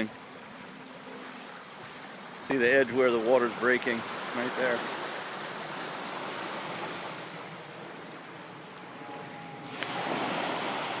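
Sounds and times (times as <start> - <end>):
small waves washing onto beach: 0.0 - 11.0.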